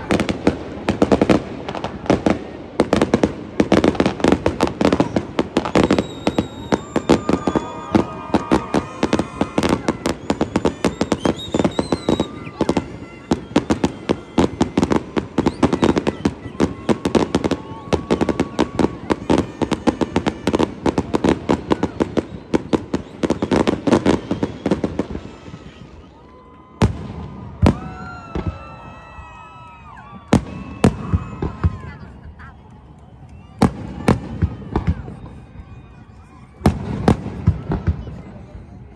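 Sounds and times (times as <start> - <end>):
loud firework booms: 0.0 - 26.0, 26.7 - 28.7, 30.1 - 32.3, 33.6 - 35.3, 36.6 - 38.6
fireworks crackling and banging: 0.0 - 38.9.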